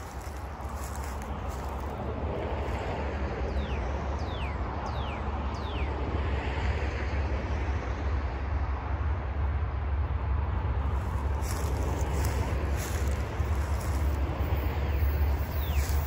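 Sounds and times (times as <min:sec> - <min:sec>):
steady low rumble: 0:00.0 - 0:04.2, 0:07.2 - 0:16.0.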